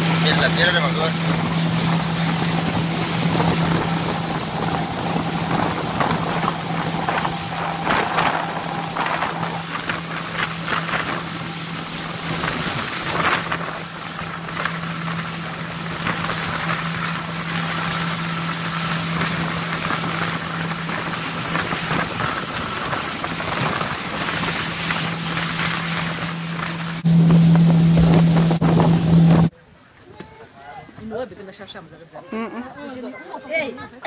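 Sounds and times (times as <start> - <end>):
outboard motor humming: 0.0 - 29.5
water rushing from wake: 0.0 - 30.4
wind rushing: 1.1 - 17.9, 18.6 - 29.5.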